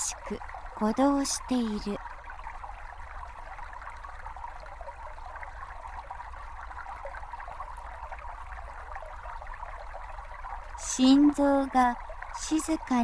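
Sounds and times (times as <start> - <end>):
stream trickling over stones: 0.0 - 13.0.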